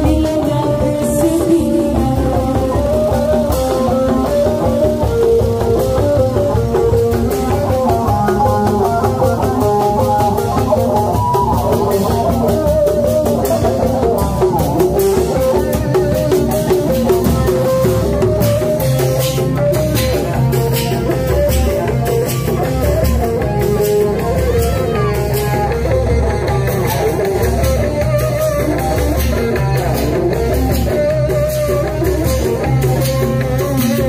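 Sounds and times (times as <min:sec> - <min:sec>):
band music over loudspeakers: 0:00.0 - 0:34.0
drums: 0:00.0 - 0:34.0
plucked guitar-like melody: 0:00.0 - 0:34.0.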